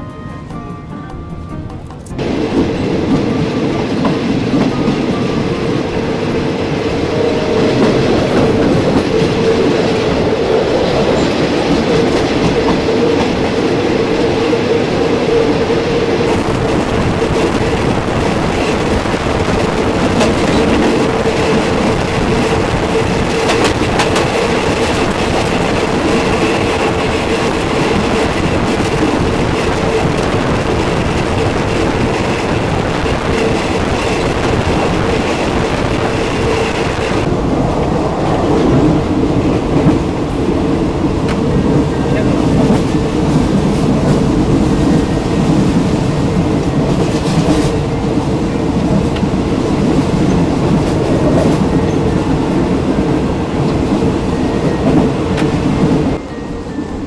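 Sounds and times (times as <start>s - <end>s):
train rumbling and rattling: 0.0s - 57.0s.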